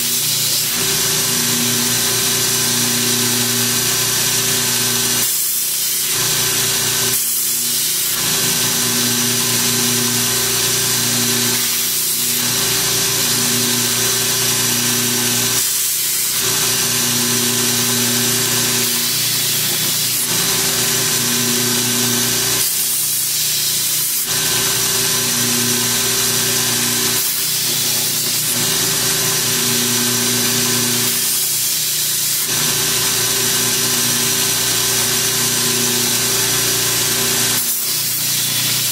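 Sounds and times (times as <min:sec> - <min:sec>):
belt grinder motor hum: 0:00.0 - 0:38.9
blade grinding hiss: 0:00.0 - 0:38.9.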